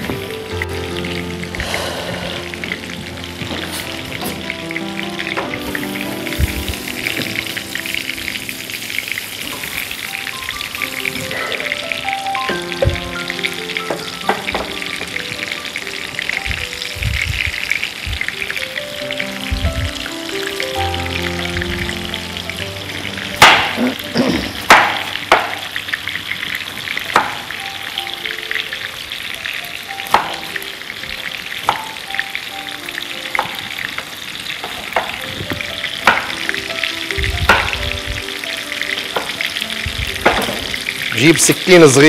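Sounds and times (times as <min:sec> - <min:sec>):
chicken sizzling in frying oil: 0:00.0 - 0:42.0.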